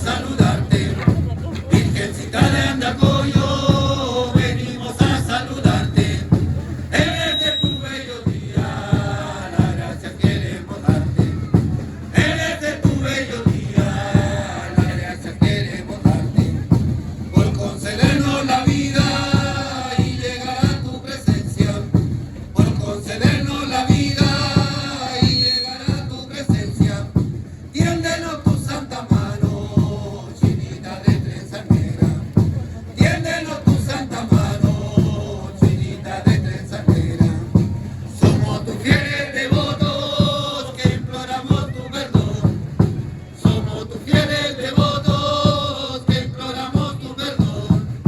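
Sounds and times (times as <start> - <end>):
group chanting a song: 0.0 - 48.0
steady drumbeat: 0.0 - 48.0.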